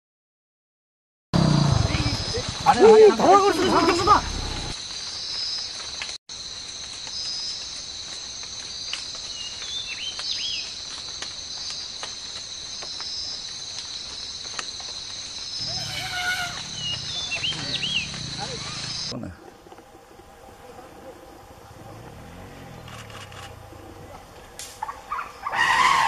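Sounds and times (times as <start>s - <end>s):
crickets trilling: 1.4s - 26.0s.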